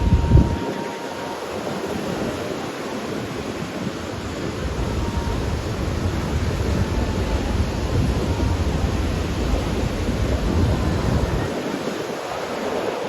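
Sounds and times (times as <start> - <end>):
sea waves on a beach: 0.0 - 13.0
wind buffeting microphone: 0.0 - 13.0.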